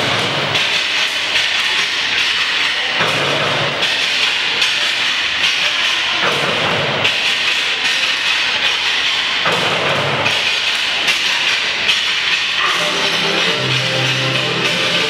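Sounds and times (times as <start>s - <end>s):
dance sticks clacking: 0.1s - 15.0s.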